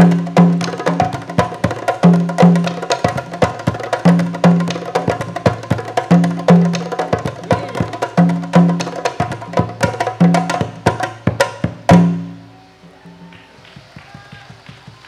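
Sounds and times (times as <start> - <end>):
drum ensemble playing: 0.0 - 15.0.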